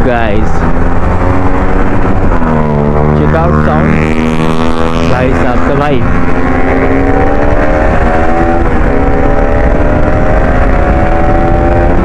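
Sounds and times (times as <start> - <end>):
motorcycle engine accelerating: 0.0 - 12.0
wind rumble: 0.0 - 12.0.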